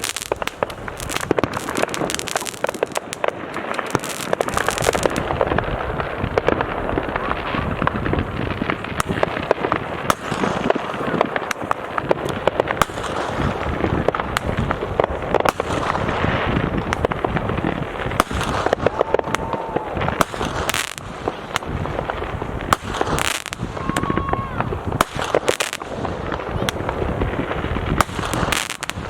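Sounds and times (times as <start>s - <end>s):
fireworks crackling and banging: 0.0s - 29.0s.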